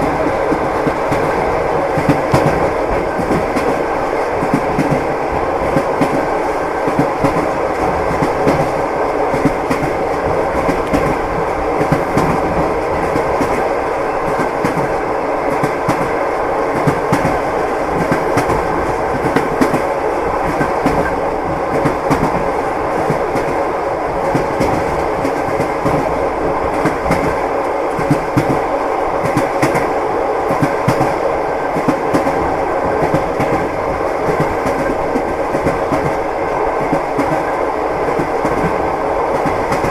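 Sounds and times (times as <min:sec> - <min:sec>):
train wheels clattering: 0:00.0 - 0:39.9.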